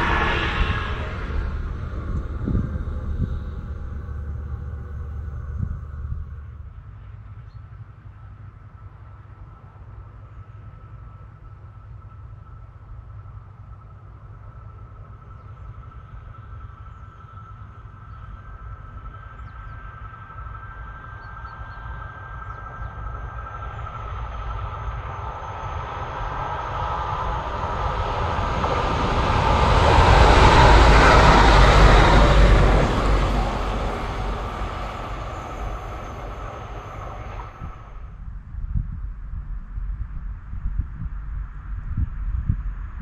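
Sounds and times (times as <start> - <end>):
train wheels rumbling on rails: 0.0 - 38.4
thin steady whine: 0.0 - 43.0.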